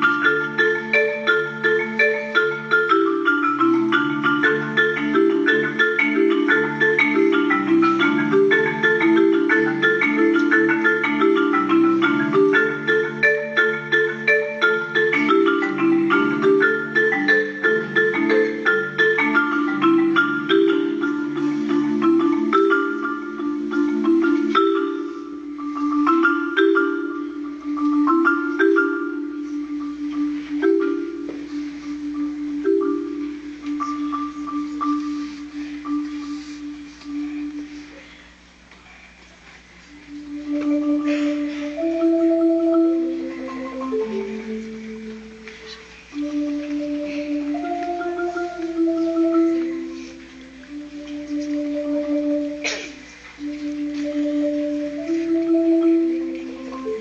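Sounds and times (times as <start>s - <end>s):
marimba played with mallets: 0.0s - 57.0s.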